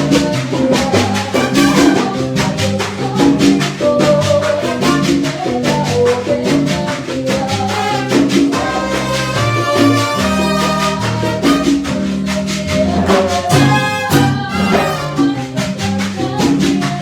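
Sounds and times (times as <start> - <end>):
bass line: 0.0 - 16.4
salsa band playing: 0.0 - 17.0
shakers and percussion: 0.0 - 17.0.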